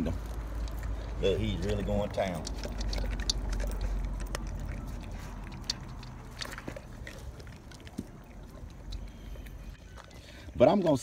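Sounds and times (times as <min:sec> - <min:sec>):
low steady rumble: 0:00.0 - 0:10.4
dog chewing food: 0:00.0 - 0:11.0.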